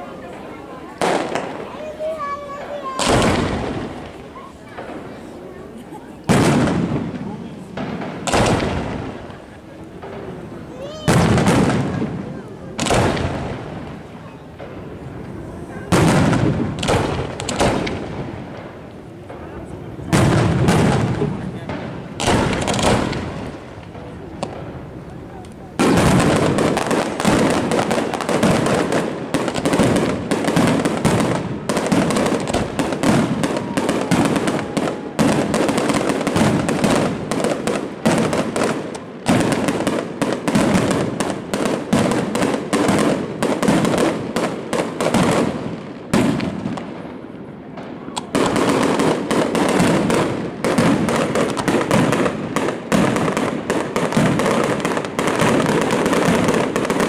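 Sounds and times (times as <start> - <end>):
fireworks rapid bangs: 0.0 - 57.0.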